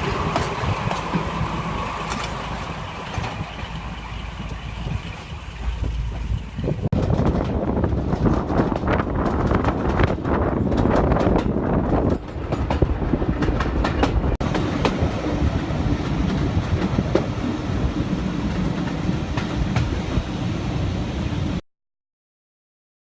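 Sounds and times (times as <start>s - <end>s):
wheels clicking over rail joints: 0.0s - 20.0s
train rumbling: 0.0s - 21.6s.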